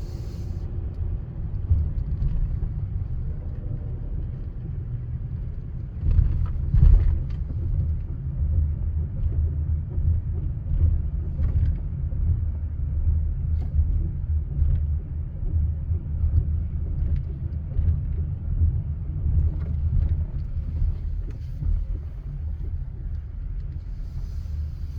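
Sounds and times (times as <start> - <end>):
vehicle low rumble: 0.0 - 24.9.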